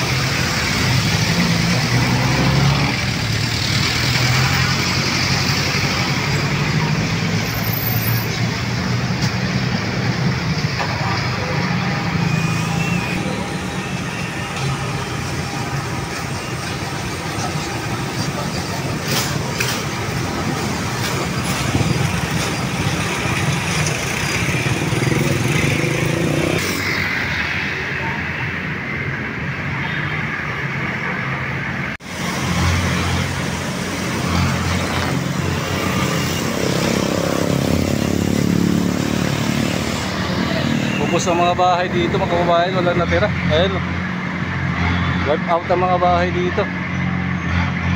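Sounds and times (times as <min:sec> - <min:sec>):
cars and motorcycles passing: 0:00.0 - 0:47.9.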